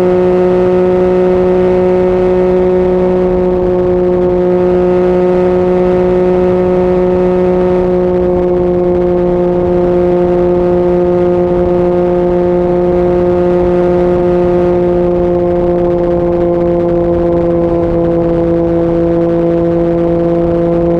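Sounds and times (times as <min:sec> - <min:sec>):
motorcycle engine at high revs: 0:00.0 - 0:20.9.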